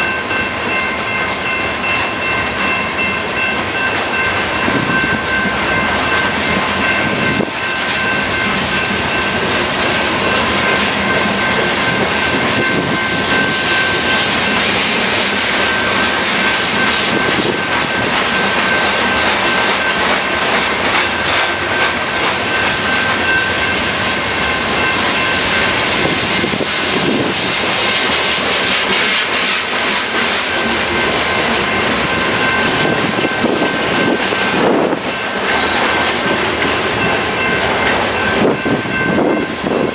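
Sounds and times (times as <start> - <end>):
freight train rolling past: 0.0 - 39.9
wheels clattering over rail joints: 4.9 - 39.9.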